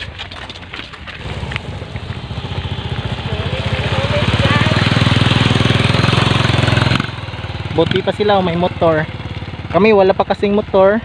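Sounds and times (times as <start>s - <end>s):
small motorcycle engine: 1.1s - 11.0s.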